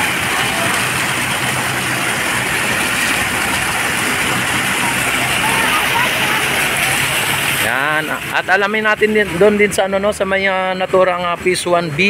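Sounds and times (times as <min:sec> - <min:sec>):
fountain water gushing and splashing: 0:00.0 - 0:12.0.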